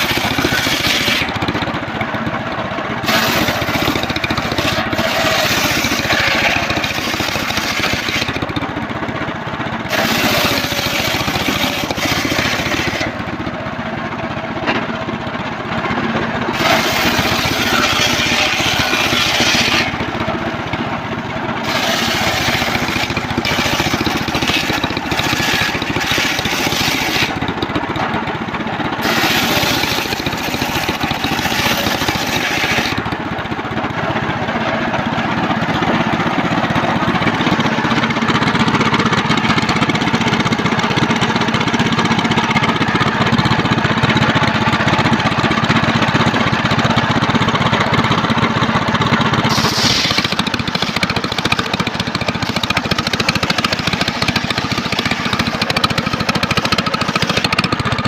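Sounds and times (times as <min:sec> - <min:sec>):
circular saw cutting timber: 0:00.0 - 0:15.1, 0:15.9 - 0:58.0
engine running: 0:00.0 - 0:58.0.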